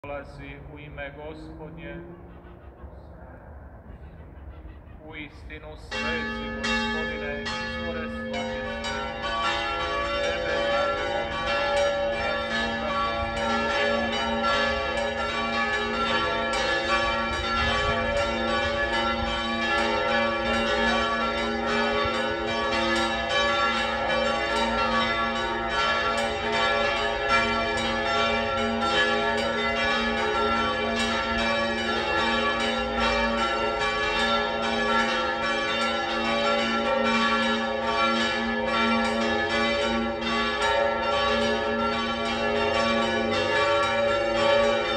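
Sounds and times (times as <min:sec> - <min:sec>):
church bells ringing: 0:00.0 - 0:03.1, 0:03.8 - 0:44.9.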